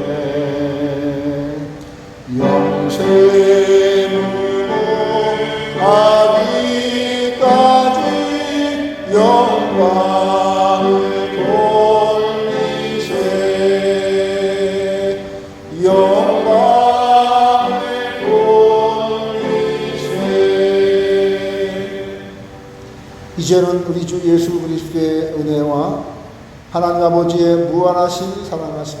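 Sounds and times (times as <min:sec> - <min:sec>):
congregation singing a hymn: 0:00.0 - 0:29.0.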